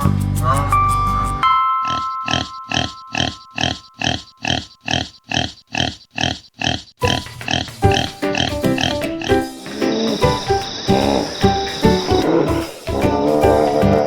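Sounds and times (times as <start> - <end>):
pig grunting: 1.9 - 14.0.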